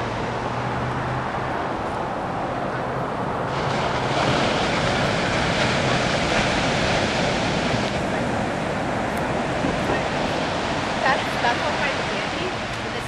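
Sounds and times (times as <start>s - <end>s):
small waves breaking on beach: 0.0s - 13.0s.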